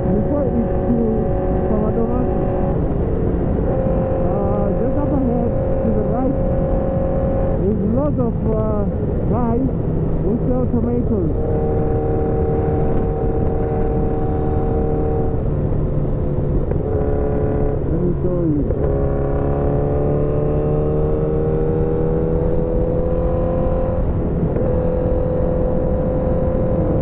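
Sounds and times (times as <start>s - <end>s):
motorcycle engine running: 0.0s - 27.0s
road noise: 0.0s - 27.0s
wind rush: 0.0s - 27.0s.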